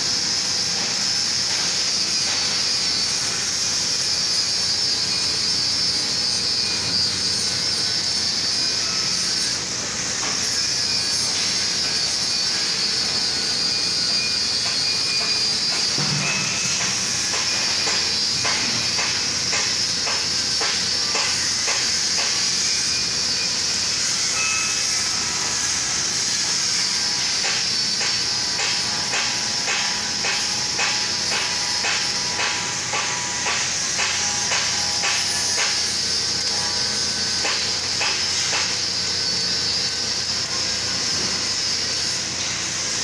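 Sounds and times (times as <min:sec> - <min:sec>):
arc welding hiss and crackle: 0:00.0 - 0:43.0.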